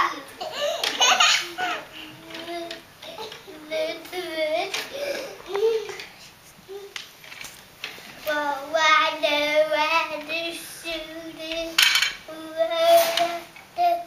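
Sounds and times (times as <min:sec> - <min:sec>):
toddler singing: 0:00.0 - 0:06.1, 0:08.2 - 0:14.0.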